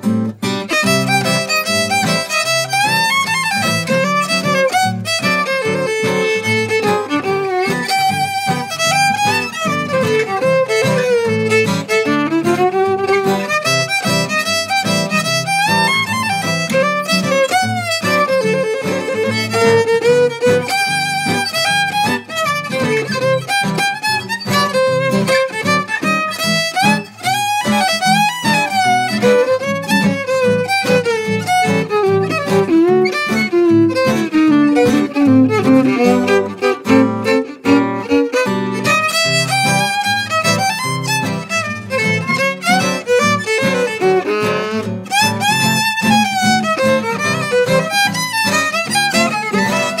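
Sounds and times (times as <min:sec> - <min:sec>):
fiddle playing ragtime melody: 0:00.0 - 0:50.0
strummed guitar chords: 0:00.0 - 0:50.0.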